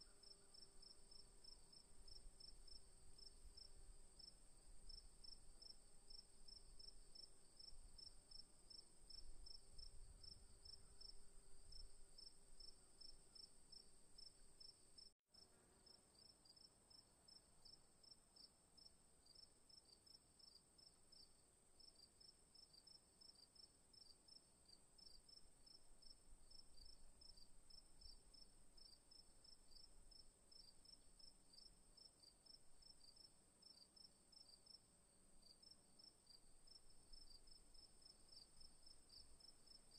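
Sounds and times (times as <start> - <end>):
faint insect chirping: 0.0 - 39.9.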